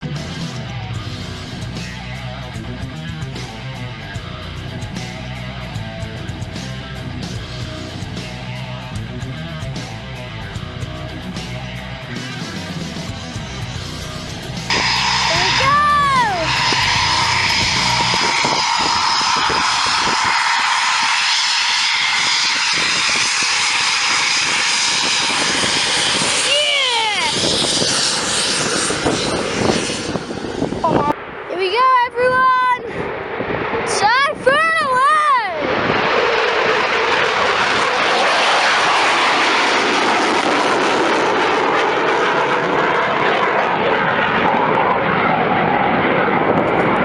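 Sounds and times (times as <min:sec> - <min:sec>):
jet engines roaring: 0:00.0 - 0:47.0.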